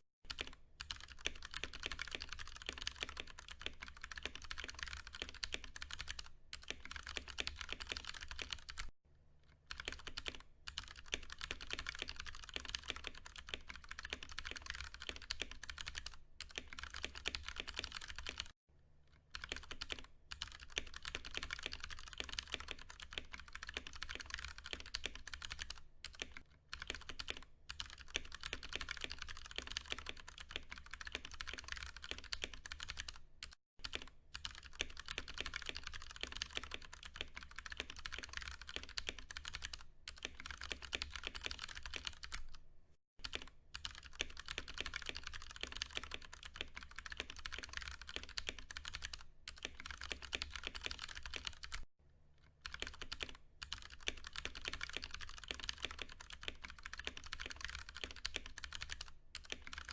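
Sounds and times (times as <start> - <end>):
fast typing on mechanical keyboard: 0.3 - 8.9, 9.7 - 18.6, 19.3 - 42.6, 43.2 - 51.9, 52.6 - 59.9.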